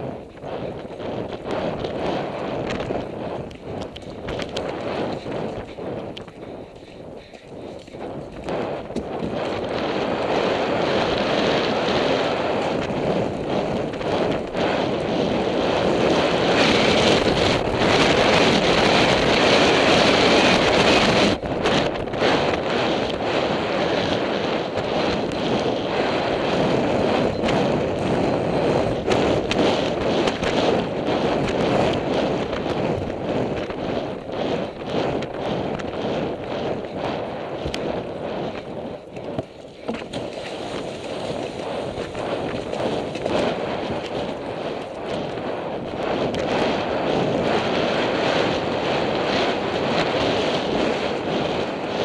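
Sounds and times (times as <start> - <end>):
wind rushing over microphone: 0.0 - 52.0.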